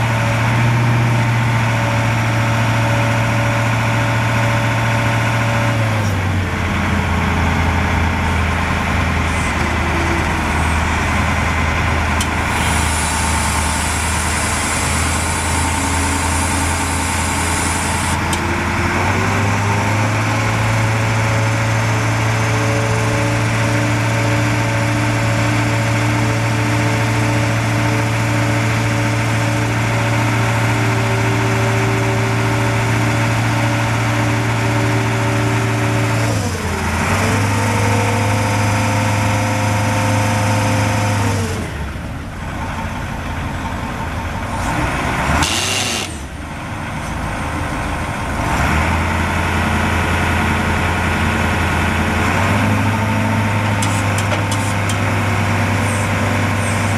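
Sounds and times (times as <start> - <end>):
diesel truck engine running: 0.0 - 56.9.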